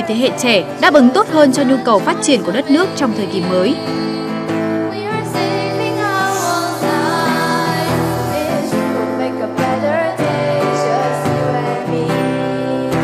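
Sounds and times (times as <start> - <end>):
acoustic guitar: 0.0 - 13.0
girl singing: 0.0 - 13.0.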